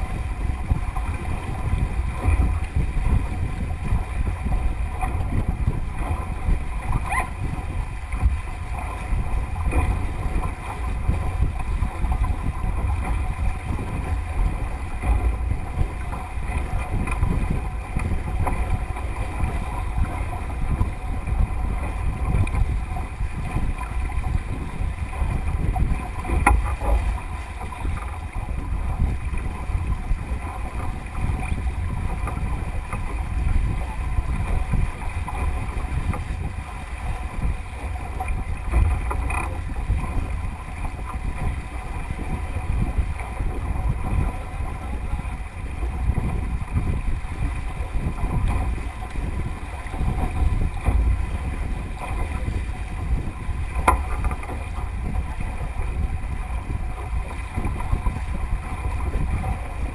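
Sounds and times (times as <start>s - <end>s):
water rushing along hull: 0.0s - 59.9s
wind buffeting microphone: 0.0s - 59.9s.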